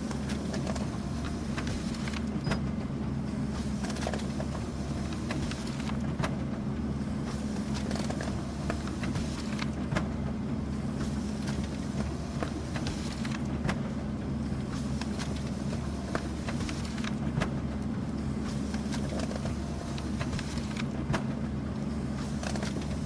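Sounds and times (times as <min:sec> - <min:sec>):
paper-feed clicks and ticks: 0:00.0 - 0:02.6, 0:03.6 - 0:06.4, 0:07.3 - 0:10.1, 0:11.0 - 0:13.9, 0:14.6 - 0:17.9, 0:18.5 - 0:23.0
printer motor hum: 0:00.0 - 0:23.0.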